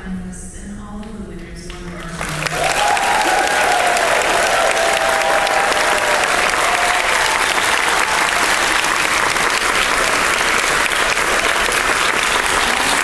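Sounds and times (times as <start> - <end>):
audience applauding: 2.1 - 13.0
hands clapping close by: 2.2 - 13.0.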